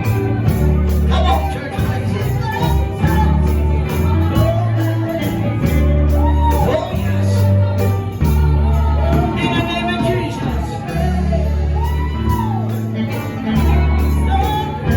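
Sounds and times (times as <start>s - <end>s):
live church music with heavy bass: 0.0s - 14.9s
voices singing and shouting: 0.0s - 14.9s.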